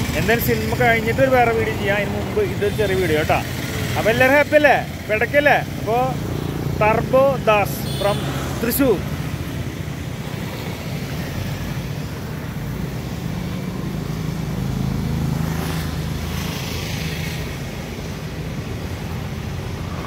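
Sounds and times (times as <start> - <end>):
cars passing on road: 0.0 - 20.0.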